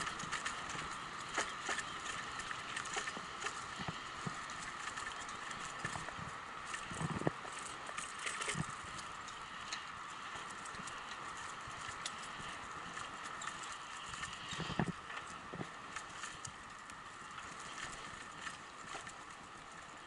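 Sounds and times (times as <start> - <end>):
bicycle rattling on dirt trail: 0.0 - 20.0
hiss of tyres and wind: 0.0 - 20.0.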